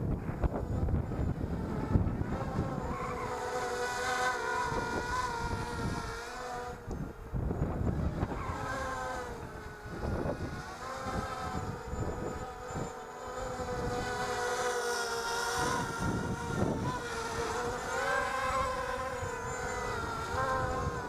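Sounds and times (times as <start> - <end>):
quadcopter motors whining: 0.0 - 21.0
wind rumble on microphone: 0.0 - 21.0.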